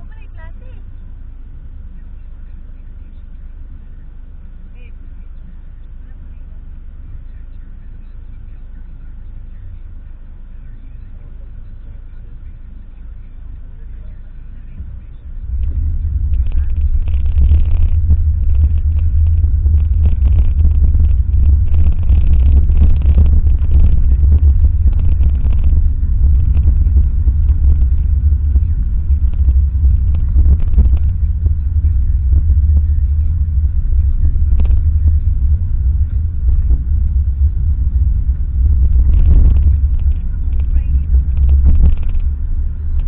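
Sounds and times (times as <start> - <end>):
car interior driving rumble: 0.0 - 43.0.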